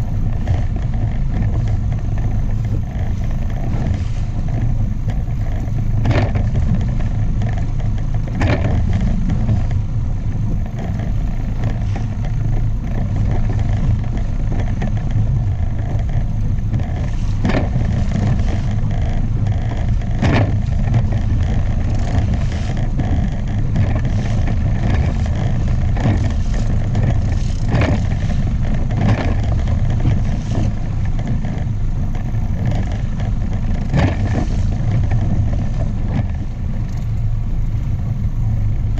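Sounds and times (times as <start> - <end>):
outboard motor running: 0.0 - 38.9
water slapping against hull: 0.0 - 38.9.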